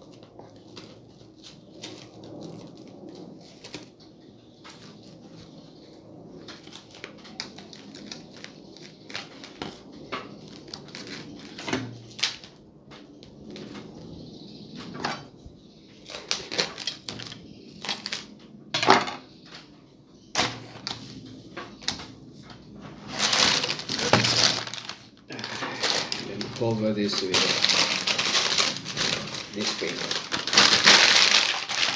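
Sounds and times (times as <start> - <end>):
cling film crinkling: 0.0 - 14.2, 15.9 - 18.5, 20.4 - 31.9.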